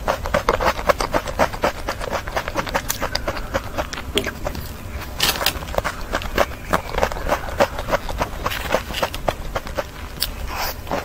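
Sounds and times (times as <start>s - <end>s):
chewing cake: 0.0s - 11.0s.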